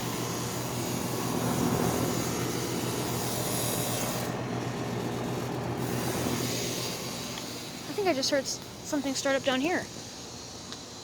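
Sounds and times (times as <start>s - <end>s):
compressor hum: 0.0s - 11.0s
condenser fan airflow: 0.0s - 11.0s.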